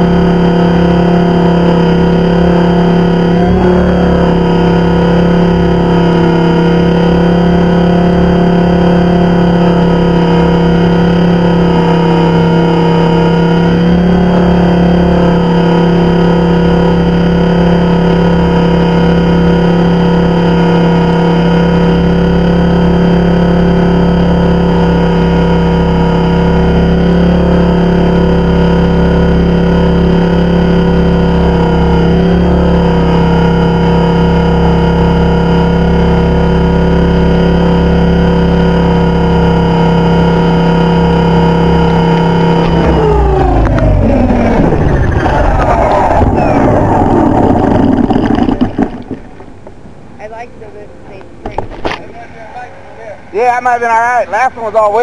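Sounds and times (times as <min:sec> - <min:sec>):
rc helicopter rotor whine: 0:00.0 - 0:49.4.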